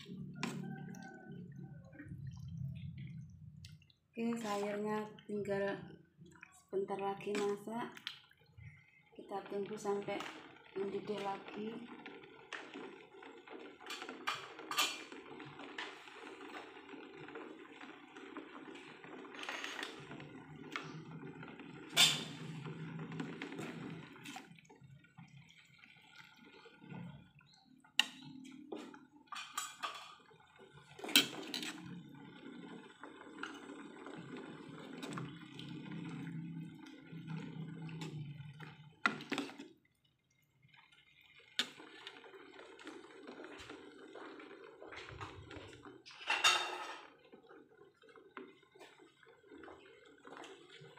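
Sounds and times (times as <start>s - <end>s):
soup bubbling in a pot: 0.0s - 50.9s.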